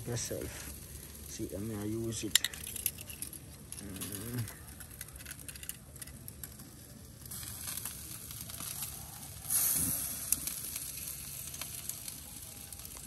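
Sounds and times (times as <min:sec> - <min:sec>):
chicken sizzling on a grill: 0:00.0 - 0:13.0
fat crackling and popping: 0:00.0 - 0:13.0.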